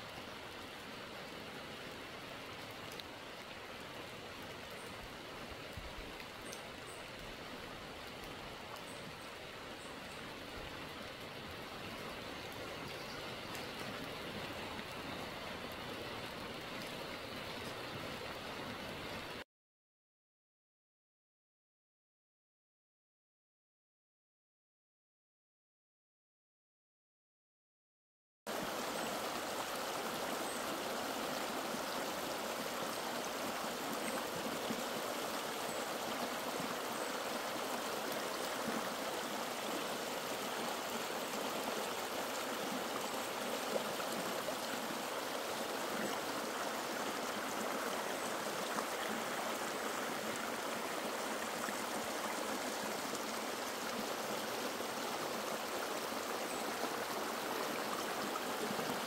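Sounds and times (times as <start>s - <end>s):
stream flowing over stones: 0.0s - 19.4s, 28.5s - 59.0s.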